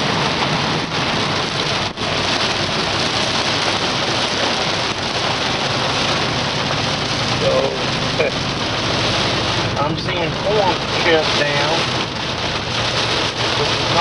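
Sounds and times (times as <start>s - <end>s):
torrential rain pouring: 0.0s - 14.0s.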